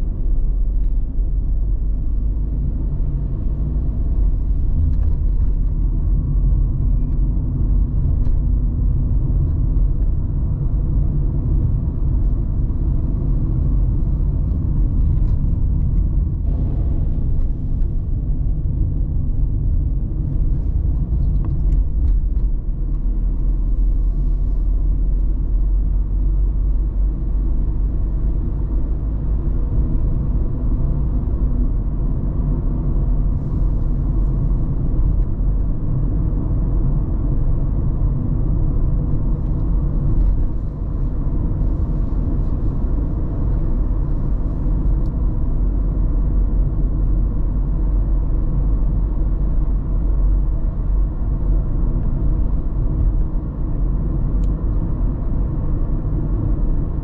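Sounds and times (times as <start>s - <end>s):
car tyre and engine rumble: 0.0s - 57.0s.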